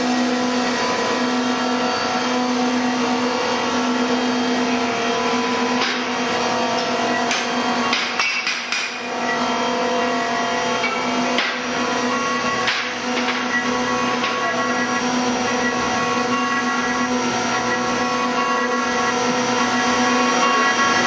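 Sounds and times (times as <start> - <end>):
cnc spindle whine with cutting: 0.0 - 21.0.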